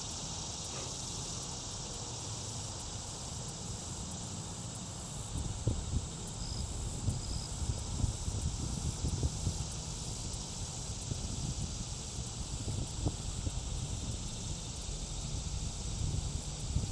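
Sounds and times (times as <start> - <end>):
high hiss of insects: 0.0 - 16.9.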